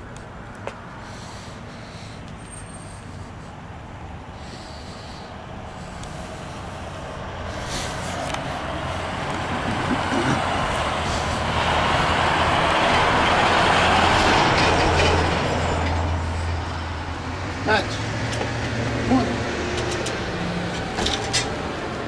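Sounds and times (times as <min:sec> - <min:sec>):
low engine hum: 0:00.0 - 0:22.0
vehicle passing: 0:00.7 - 0:22.0.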